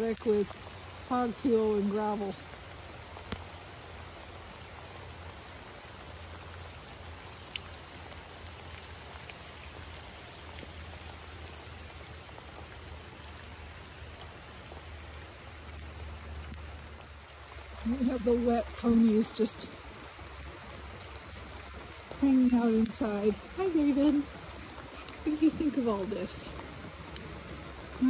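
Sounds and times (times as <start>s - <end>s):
rain on gravel: 0.0s - 28.0s
drip ticks: 2.3s - 28.0s.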